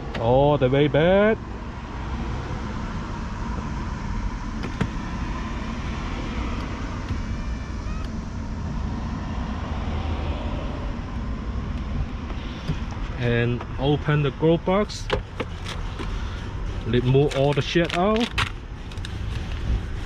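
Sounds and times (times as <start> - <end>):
steady background noise: 0.0 - 20.0
power seat motor humming: 2.1 - 20.0.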